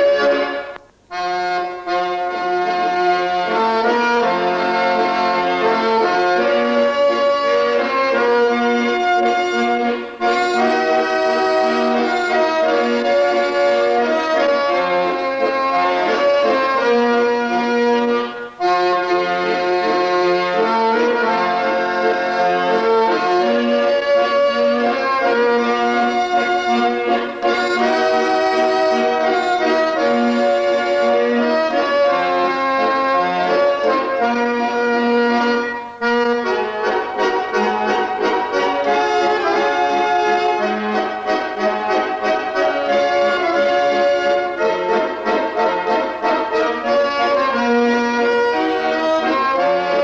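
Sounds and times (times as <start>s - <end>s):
accordions playing a tune: 0.0s - 50.0s.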